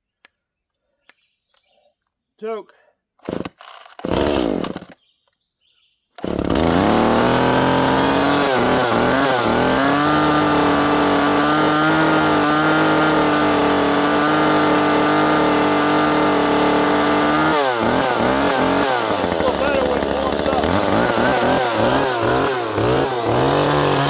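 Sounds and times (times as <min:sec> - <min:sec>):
small chainsaw running: 0:03.2 - 0:05.0, 0:06.2 - 0:24.0.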